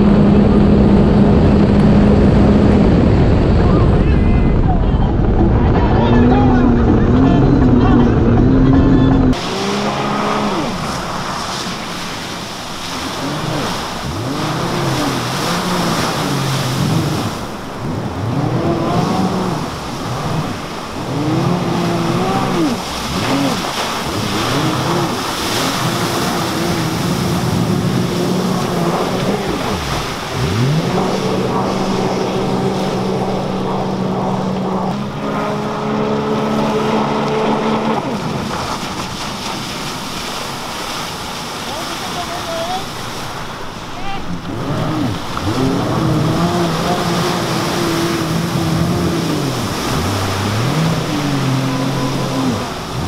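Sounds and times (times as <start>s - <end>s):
jet ski engine revving: 0.0s - 53.0s.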